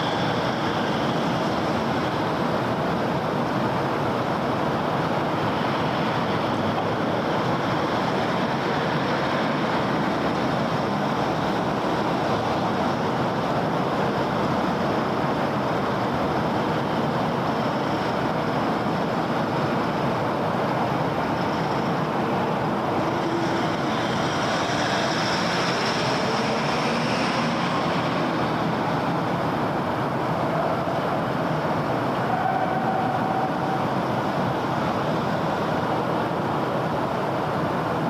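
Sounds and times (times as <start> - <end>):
passing cars and tyre noise: 0.0 - 38.0.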